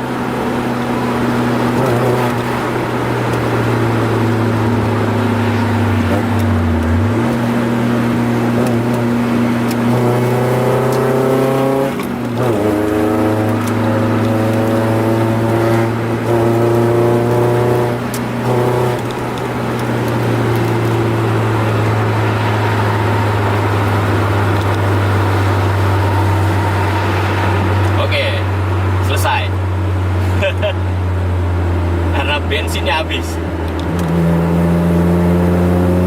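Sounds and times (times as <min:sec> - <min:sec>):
car engine revving from cabin: 0:00.0 - 0:36.0.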